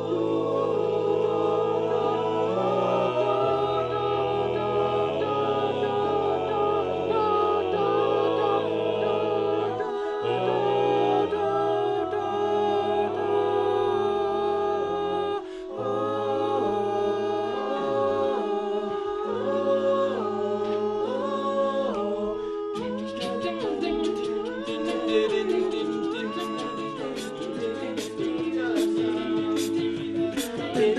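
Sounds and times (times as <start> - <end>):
male a cappella group singing: 0.0 - 30.9.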